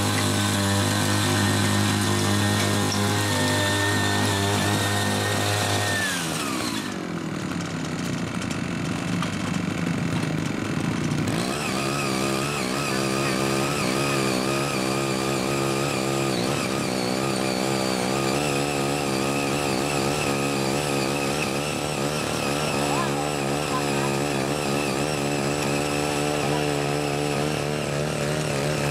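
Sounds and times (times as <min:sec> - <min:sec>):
small tiller engine running: 0:00.0 - 0:28.9.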